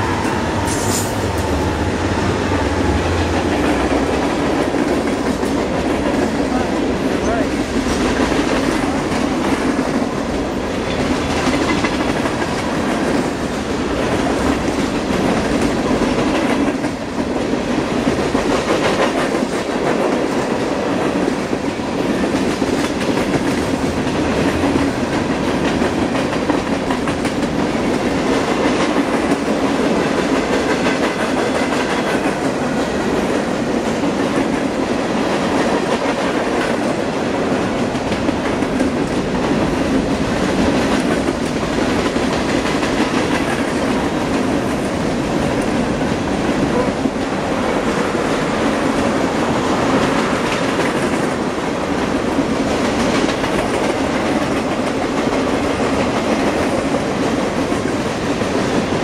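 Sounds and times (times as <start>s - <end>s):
steel wheels rolling on rail: 0.0s - 59.0s.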